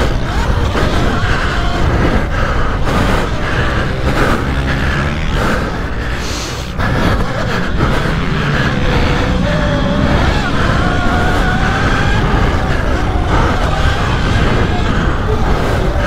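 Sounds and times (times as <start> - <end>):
pit bike engines revving: 0.0 - 16.0.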